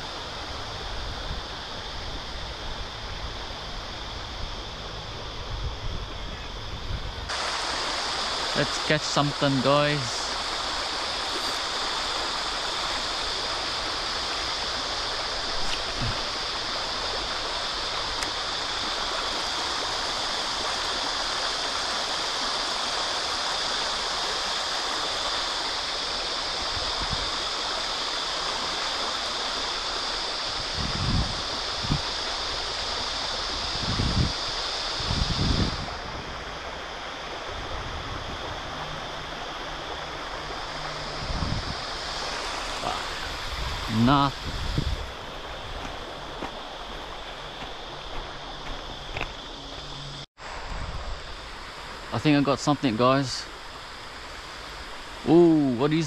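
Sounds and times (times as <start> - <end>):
river water running over riffles: 6.6 - 56.0.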